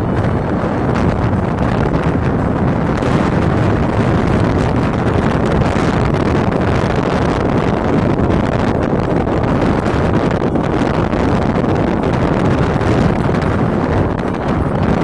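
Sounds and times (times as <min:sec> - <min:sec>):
road noise: 0:00.0 - 0:15.0
vehicle engine: 0:00.0 - 0:15.0
wind rushing over microphone: 0:00.0 - 0:15.0.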